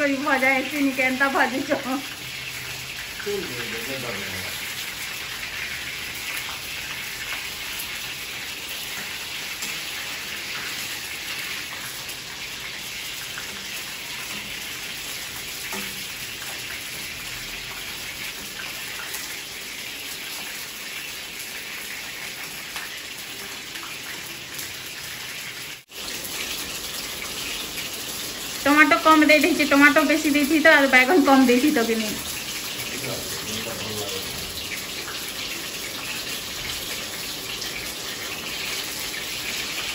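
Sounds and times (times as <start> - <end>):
eggplant sizzling in hot oil: 0.0 - 39.9.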